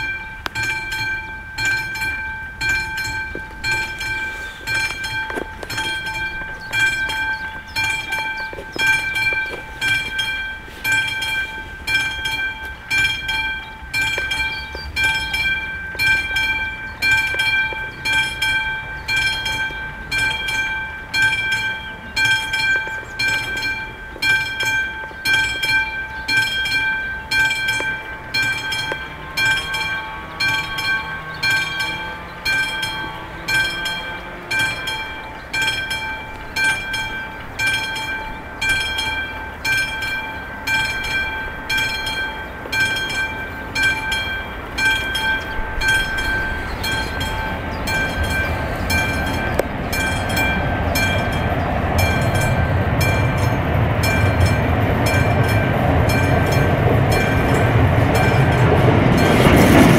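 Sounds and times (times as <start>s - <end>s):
electric locomotive rumble: 0.0s - 59.9s
level crossing warning bell: 0.0s - 59.9s.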